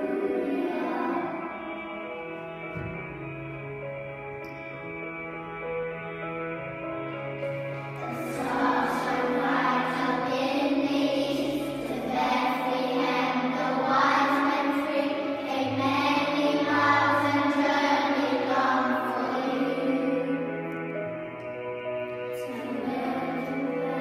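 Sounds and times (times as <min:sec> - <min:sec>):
children's choir singing carol: 0:00.0 - 0:03.8, 0:07.3 - 0:24.0
instrumental accompaniment: 0:00.0 - 0:24.0.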